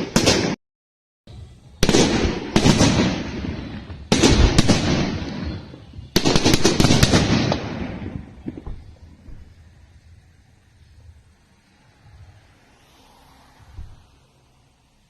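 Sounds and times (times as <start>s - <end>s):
fireworks bangs: 0.0s - 0.6s, 1.3s - 12.6s, 13.5s - 14.2s.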